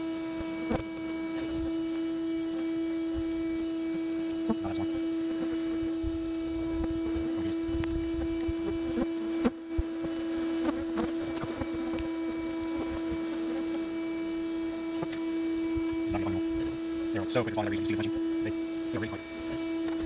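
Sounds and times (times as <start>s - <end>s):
vacuum motor humming: 0.0s - 20.0s.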